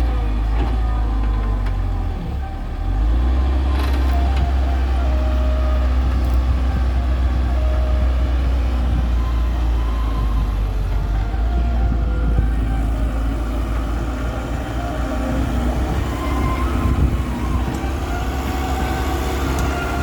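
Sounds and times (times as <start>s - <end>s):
diesel engines rumbling: 0.0s - 20.0s.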